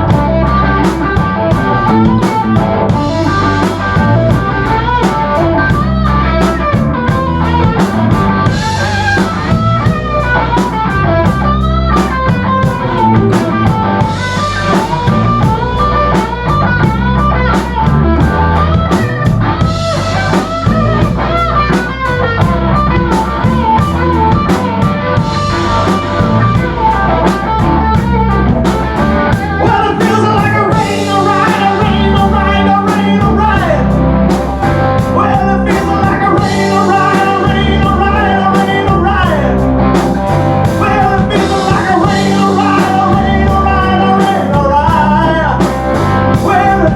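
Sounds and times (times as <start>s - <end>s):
blues-rock band playing: 0.0s - 46.9s.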